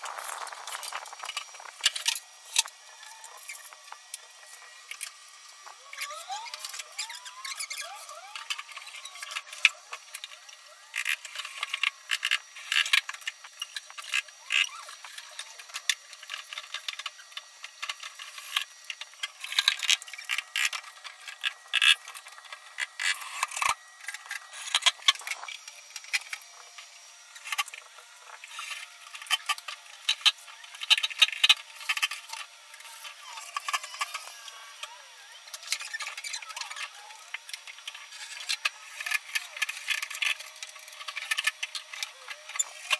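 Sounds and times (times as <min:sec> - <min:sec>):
cordless drill whine: 0:00.0 - 0:42.9.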